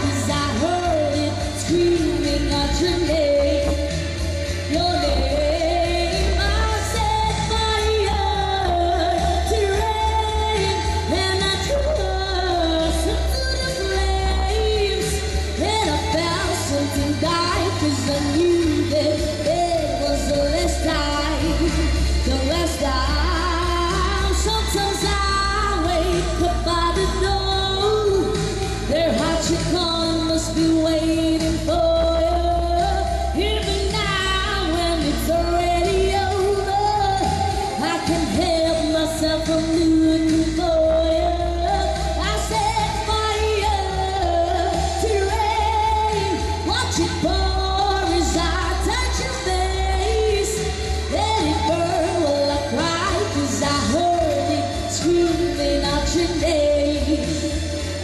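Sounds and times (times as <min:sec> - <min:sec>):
person singing pop song: 0:00.0 - 0:58.0.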